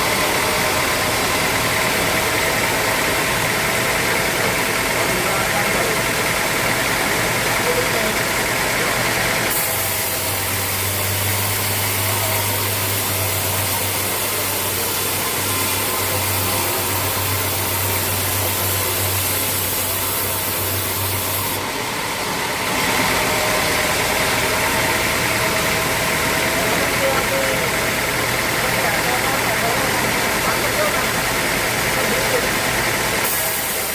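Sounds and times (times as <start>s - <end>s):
engine drone: 0.0s - 33.9s
sawmill machinery running: 0.0s - 33.9s.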